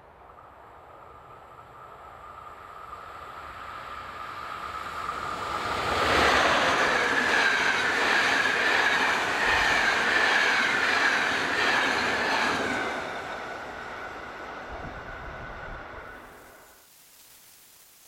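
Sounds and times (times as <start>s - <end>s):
train wheel and rail noise: 0.0s - 16.9s.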